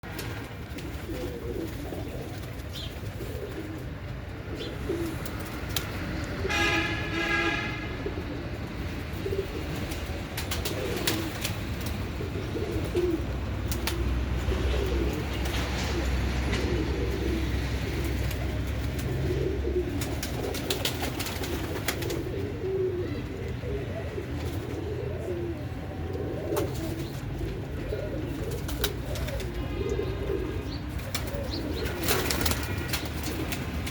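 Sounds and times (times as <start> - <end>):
pigeons cooing: 0.1 - 33.9.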